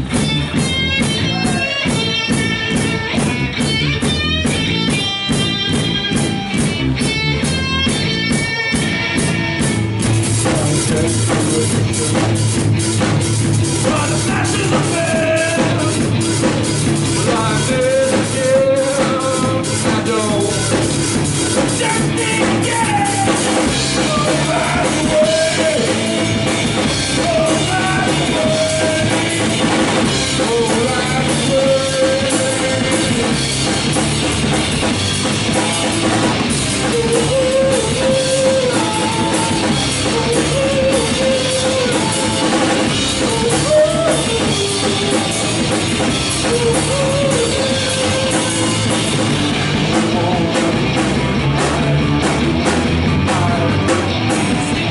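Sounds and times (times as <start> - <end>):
lead guitar bending notes: 0.0 - 54.9
live rock band playing: 0.0 - 54.9.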